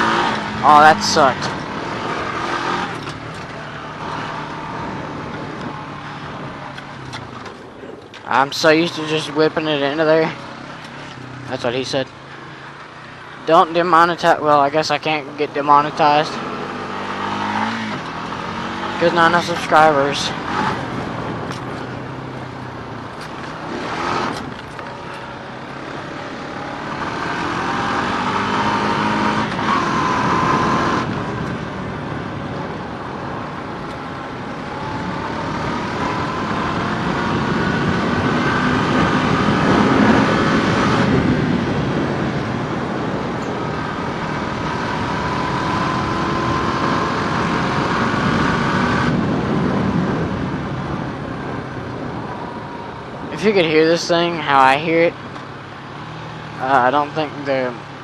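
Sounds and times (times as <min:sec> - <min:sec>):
small vehicle engine whining: 0:00.0 - 0:58.0.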